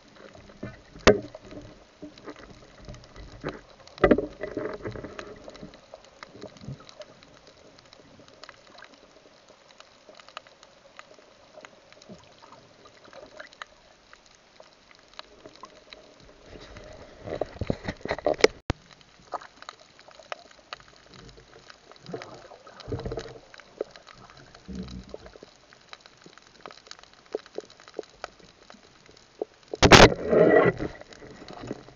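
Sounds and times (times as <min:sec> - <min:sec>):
low underwater hiss: 0:00.0 - 0:31.9
rushes of water: 0:00.0 - 0:31.9
underwater clicks: 0:00.1 - 0:09.1, 0:14.9 - 0:31.9.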